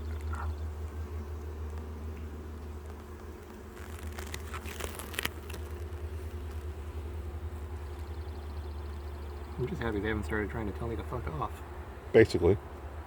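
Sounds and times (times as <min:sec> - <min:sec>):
honeybees humming: 0:00.0 - 0:12.8.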